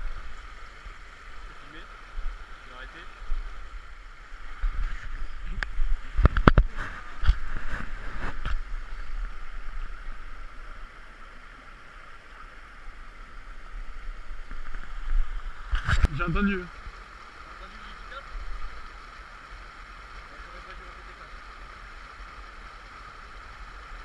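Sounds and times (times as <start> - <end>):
stream babbling over stones: 0.0 - 24.0.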